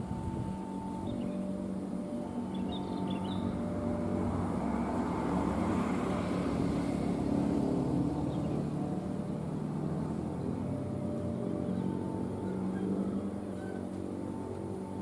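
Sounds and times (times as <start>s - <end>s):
diesel train engine hum: 0.0s - 15.0s
wheels rushing on rails: 0.0s - 15.0s.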